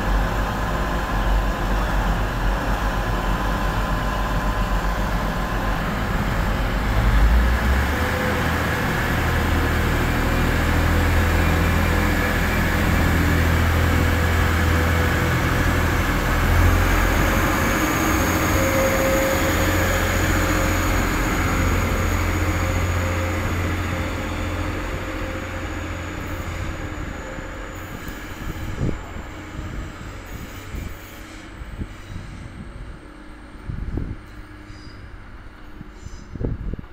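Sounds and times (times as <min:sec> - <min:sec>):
train engine rumble: 0:00.0 - 0:36.9.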